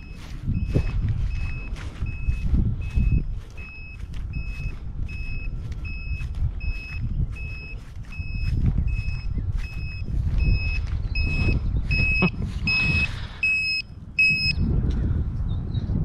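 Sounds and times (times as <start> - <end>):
short high beeps: 0.0 - 14.6
wind on microphone: 0.0 - 16.0.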